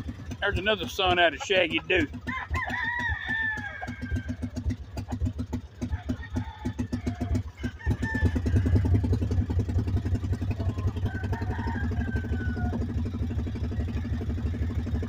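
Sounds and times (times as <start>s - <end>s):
small farm vehicle engine running: 0.0s - 15.0s.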